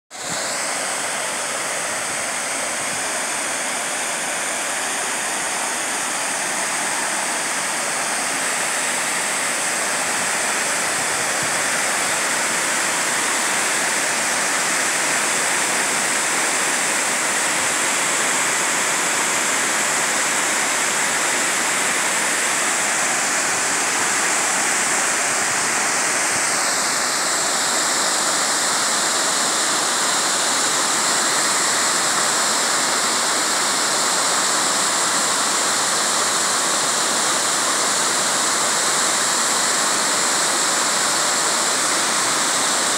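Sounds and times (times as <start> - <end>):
fountain water splashing into pool: 0.1 - 42.9.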